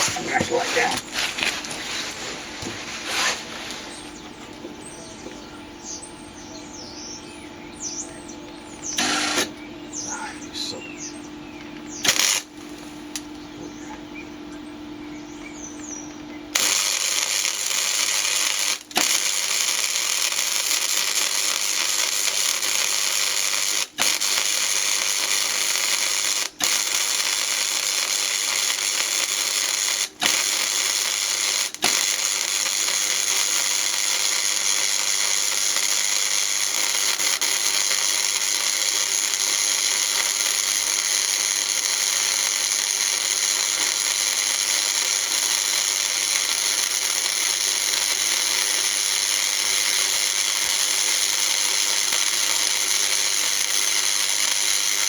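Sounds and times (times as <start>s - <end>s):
welding arc crackling: 0.0s - 4.6s, 8.8s - 10.7s, 11.9s - 13.4s, 16.5s - 55.0s
steady hum: 0.0s - 55.0s.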